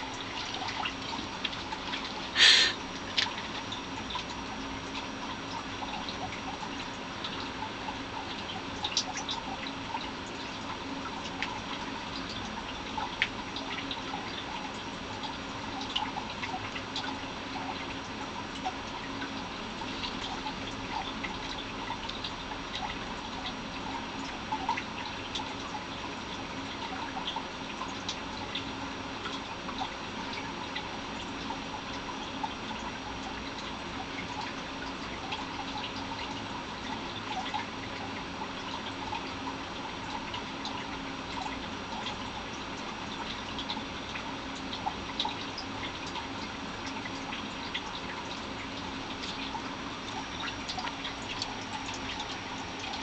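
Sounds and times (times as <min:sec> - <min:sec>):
steady hiss and hum: 0:00.0 - 0:53.0.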